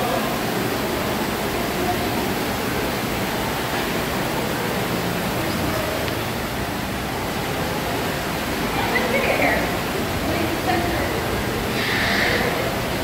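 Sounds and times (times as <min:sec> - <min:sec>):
rushing background noise of aquarium hall: 0:00.0 - 0:13.0.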